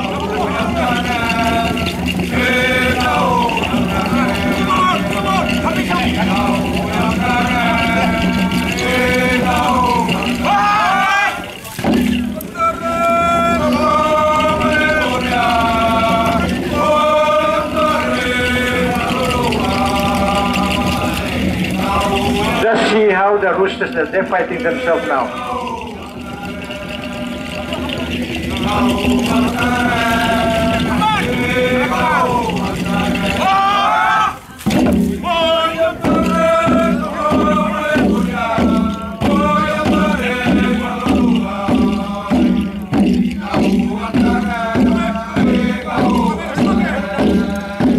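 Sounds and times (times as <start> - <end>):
men chanting together: 0.0 - 47.9
steady drum beat: 0.0 - 47.9.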